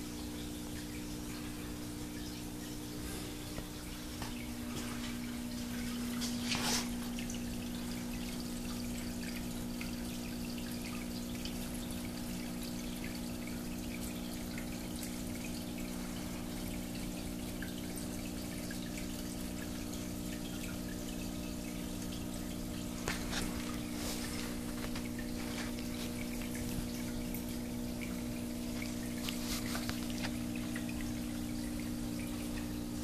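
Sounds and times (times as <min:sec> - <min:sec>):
fountain water trickling into basin: 0:00.0 - 0:33.0.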